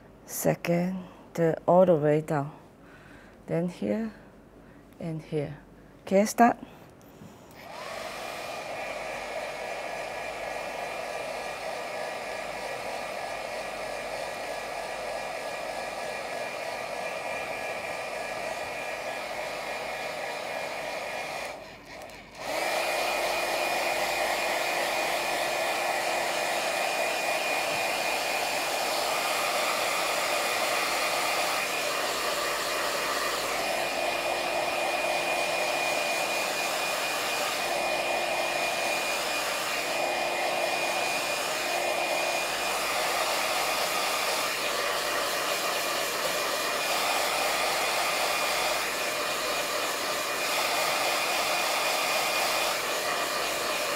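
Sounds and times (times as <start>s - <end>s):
handheld device fan whirring: 7.5s - 53.9s.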